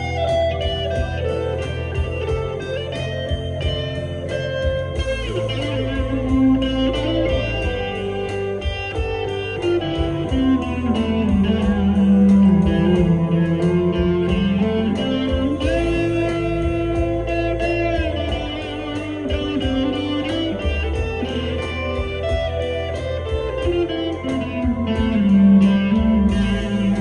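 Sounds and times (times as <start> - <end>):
backing music with steady beat: 0.0 - 27.0
electric guitar lead with bends: 0.0 - 27.0.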